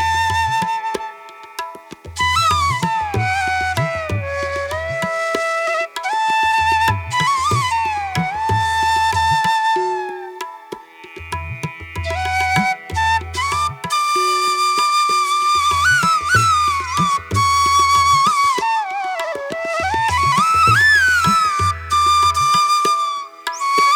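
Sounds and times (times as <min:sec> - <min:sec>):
flute melody: 0:00.0 - 0:10.8, 0:12.0 - 0:23.9.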